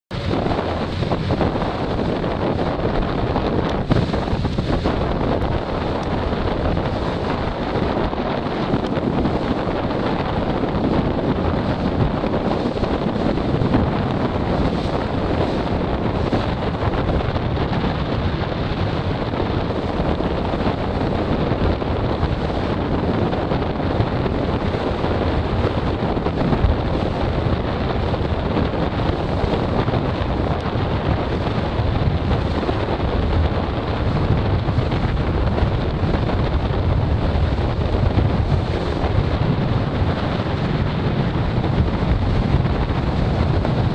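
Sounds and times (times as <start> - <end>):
wind buffeting microphone: 0.1 - 43.9.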